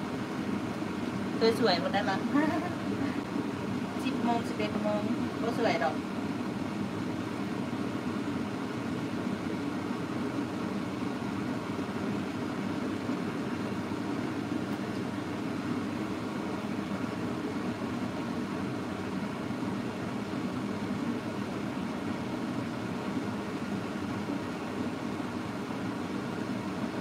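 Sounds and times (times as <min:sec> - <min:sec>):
low kitchen hum: 0:00.0 - 0:27.0.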